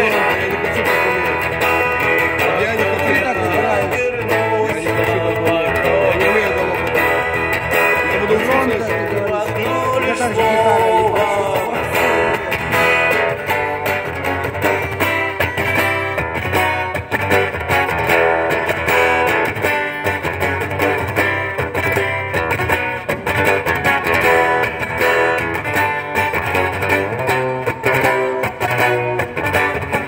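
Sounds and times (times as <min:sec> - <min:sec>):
bass guitar: 0:00.0 - 0:30.0
electric guitar: 0:00.0 - 0:30.0.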